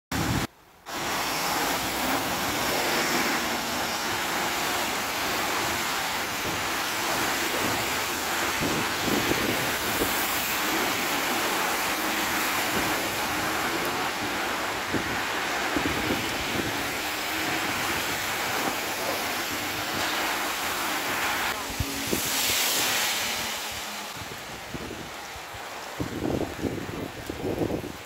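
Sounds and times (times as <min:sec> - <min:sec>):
rain on flooded street: 0:00.1 - 0:28.0
cars driving through floodwater: 0:00.2 - 0:28.0.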